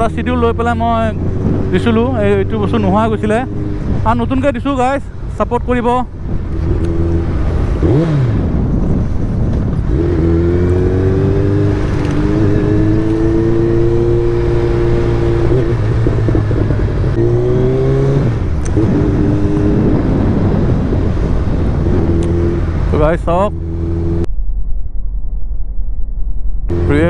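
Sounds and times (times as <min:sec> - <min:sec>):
motorcycle engine: 0:00.0 - 0:05.4, 0:06.1 - 0:26.0, 0:26.6 - 0:27.0.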